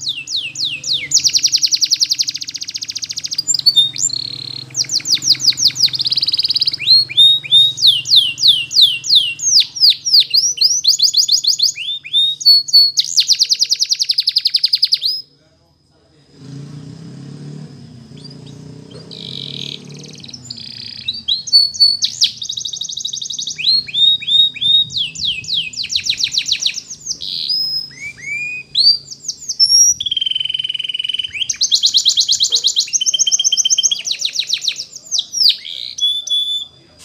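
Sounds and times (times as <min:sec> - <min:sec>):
canary singing: 0:00.0 - 0:15.4, 0:16.9 - 0:37.0.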